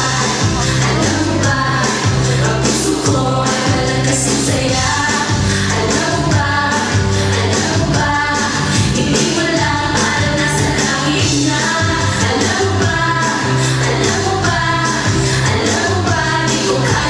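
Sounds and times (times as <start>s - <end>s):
repeating bass line: 0.0s - 17.0s
women singing pop song: 0.0s - 17.0s.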